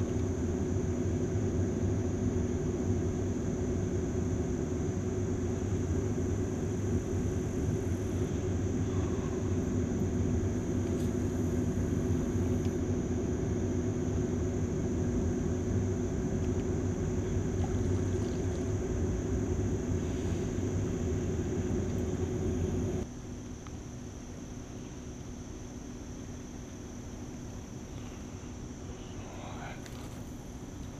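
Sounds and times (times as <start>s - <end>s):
steady low rumble: 0.0s - 23.1s, 24.6s - 30.9s.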